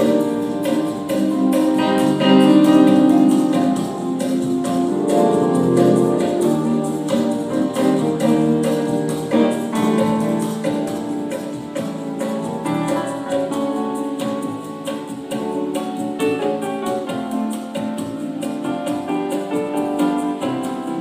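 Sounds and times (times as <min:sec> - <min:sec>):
electronic keyboard chords and melody: 0:00.0 - 0:21.0.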